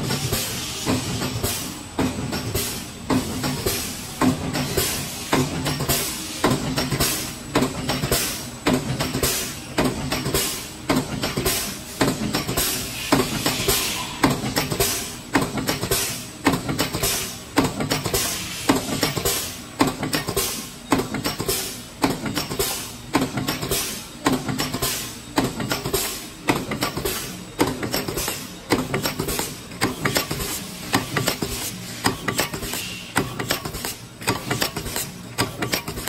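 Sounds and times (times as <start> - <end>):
pneumatic press clattering: 0.0 - 36.0.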